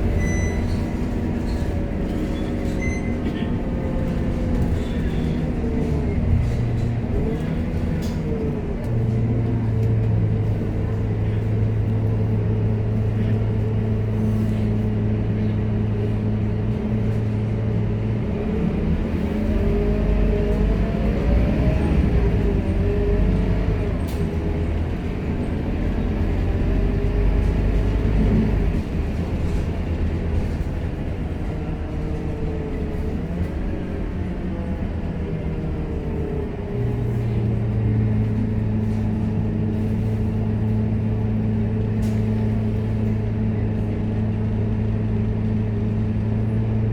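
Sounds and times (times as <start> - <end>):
bus engine: 0.0 - 46.9.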